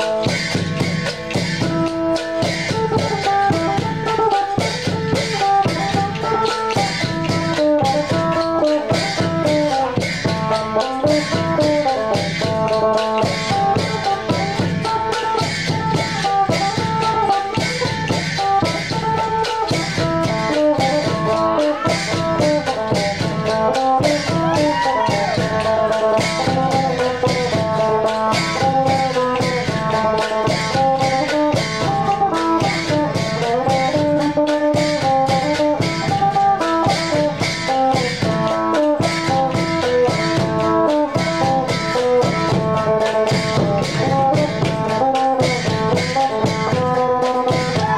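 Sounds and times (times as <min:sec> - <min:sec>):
large barrel drum beat: 0:00.0 - 0:47.9.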